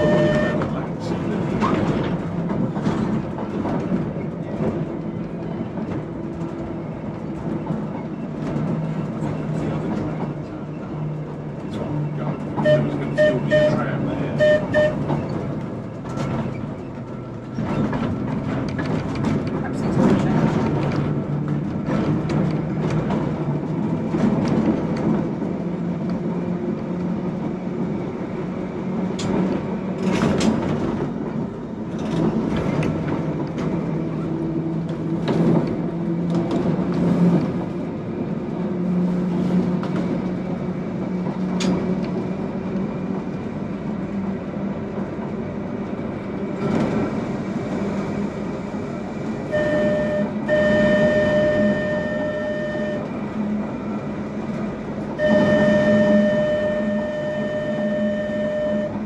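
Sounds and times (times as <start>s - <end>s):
tram motor hum: 0.0s - 59.0s.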